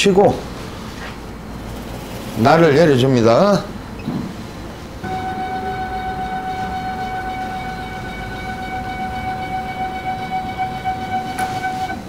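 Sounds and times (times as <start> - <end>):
wood machine motor whine: 0.7 - 12.0.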